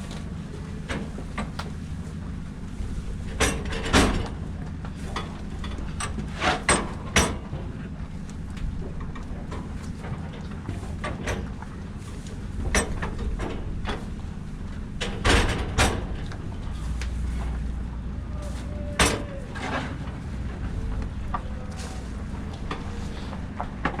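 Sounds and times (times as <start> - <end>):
steady low rumble: 0.0 - 24.0
clanks and knocks: 3.1 - 18.0, 18.9 - 24.0.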